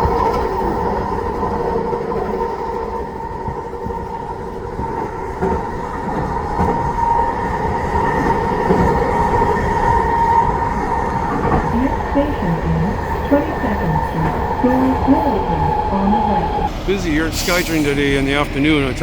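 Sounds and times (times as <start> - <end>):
train whine: 0.0 - 19.0
wheels rumbling on rail: 0.0 - 19.0.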